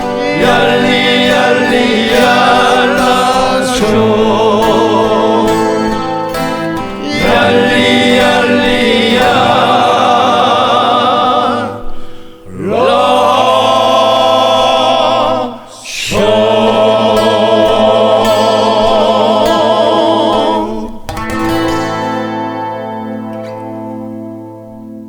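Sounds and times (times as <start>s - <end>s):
male vocal group singing: 0.0s - 21.1s
acoustic guitar: 0.0s - 25.0s.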